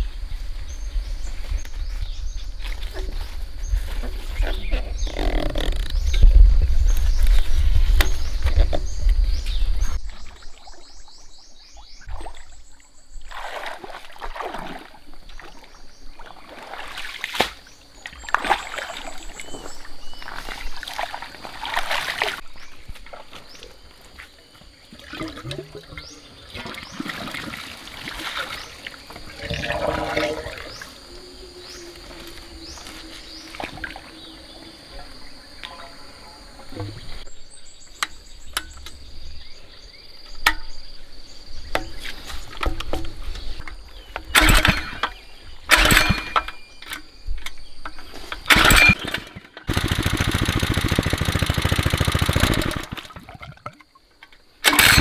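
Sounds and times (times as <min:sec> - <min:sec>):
water splashing and trickling: 0:01.2 - 0:31.2, 0:31.8 - 0:34.7, 0:40.5 - 0:55.0.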